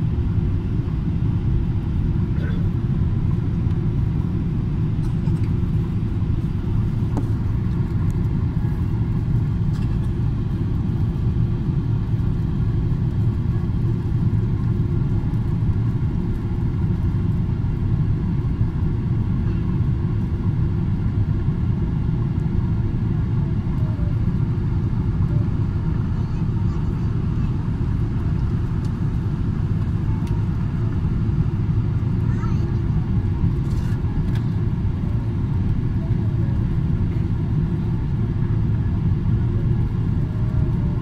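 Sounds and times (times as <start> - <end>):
airliner cabin engine rumble: 0.0 - 41.0.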